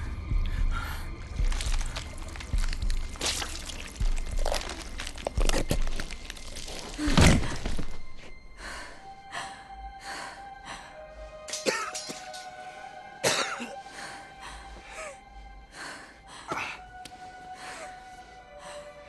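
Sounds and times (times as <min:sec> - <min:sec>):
dark film score: 0:00.0 - 0:19.0.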